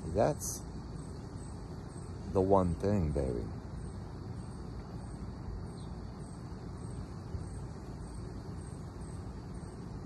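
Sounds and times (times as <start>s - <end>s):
high insect buzz: 0.0s - 10.0s
insect chirping: 0.0s - 10.0s.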